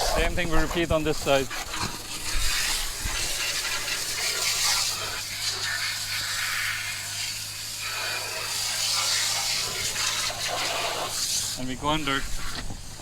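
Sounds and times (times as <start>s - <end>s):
pressure washer spray hissing: 0.0s - 13.0s.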